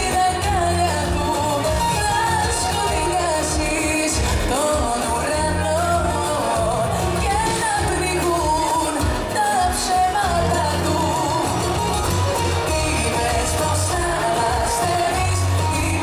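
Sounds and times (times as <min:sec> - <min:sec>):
live pop band: 0:00.0 - 0:16.0
person singing: 0:00.0 - 0:16.0.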